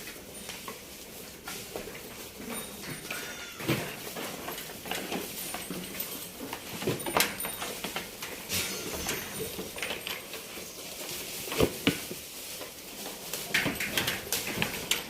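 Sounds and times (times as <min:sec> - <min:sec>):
goat hooves knocking and clattering: 0:00.0 - 0:15.0.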